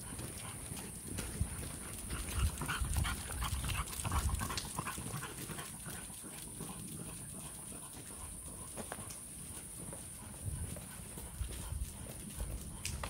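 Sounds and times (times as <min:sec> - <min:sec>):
dog paws clicking on asphalt: 0:00.0 - 0:13.0
dog sounds: 0:00.0 - 0:13.0.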